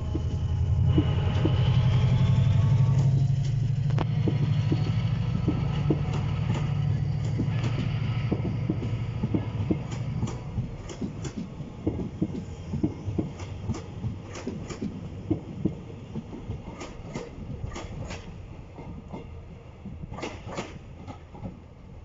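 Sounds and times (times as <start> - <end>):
train wheels clicking over rail joints: 0.0 - 21.9
diesel locomotive engine rumbling: 0.0 - 22.0.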